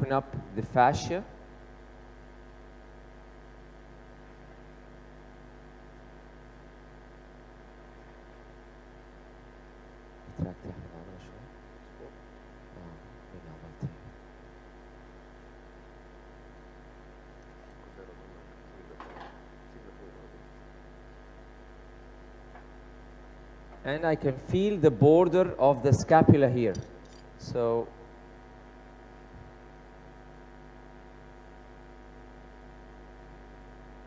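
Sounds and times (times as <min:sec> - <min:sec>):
electrical mains hum: 0:00.0 - 0:34.0.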